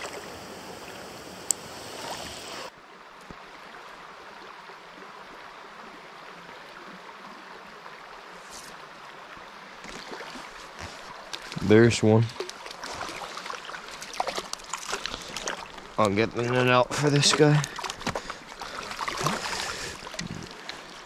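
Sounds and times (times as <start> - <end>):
creek water flowing: 0.0 - 21.0.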